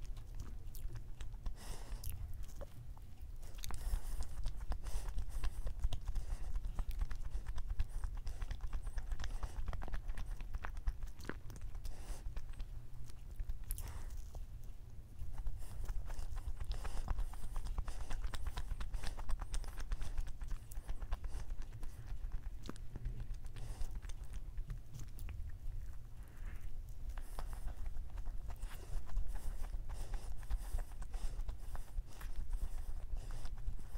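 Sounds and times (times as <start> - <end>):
chewing with wet mouth clicks: 0.0 - 33.9
steady low hum: 0.0 - 33.9.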